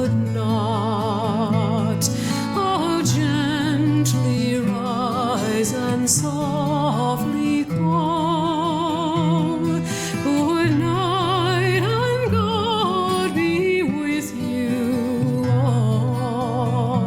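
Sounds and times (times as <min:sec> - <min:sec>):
person singing with vibrato: 0:00.0 - 0:17.0.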